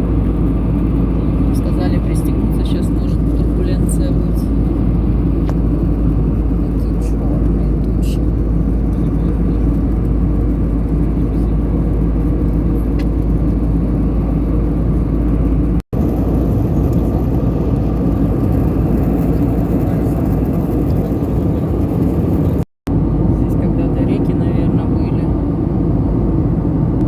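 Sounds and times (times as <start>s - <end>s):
moving vehicle rumble: 0.0s - 27.0s.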